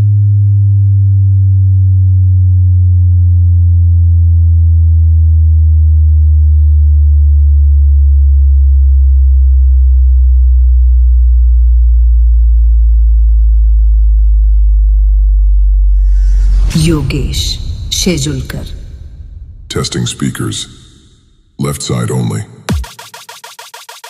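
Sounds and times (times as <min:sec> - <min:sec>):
deep bass test tone: 0:00.0 - 0:21.3.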